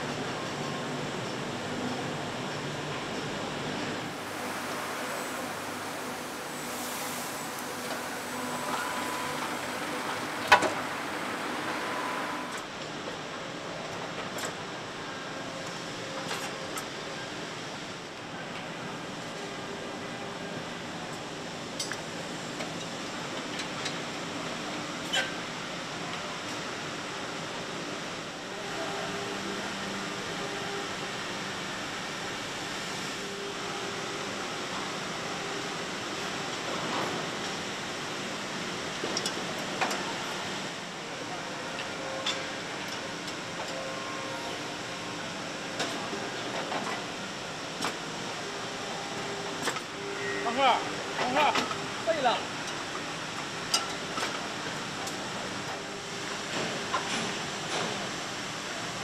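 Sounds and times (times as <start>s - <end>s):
assembly line machinery noise: 0.0s - 15.0s, 15.6s - 59.0s
factory hum and hiss: 0.0s - 59.0s.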